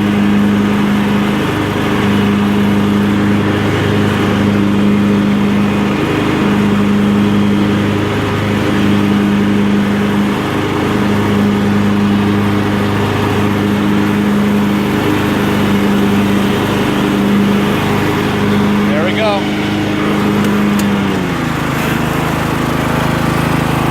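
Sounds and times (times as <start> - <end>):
lawn tractor engine droning: 0.0 - 23.9.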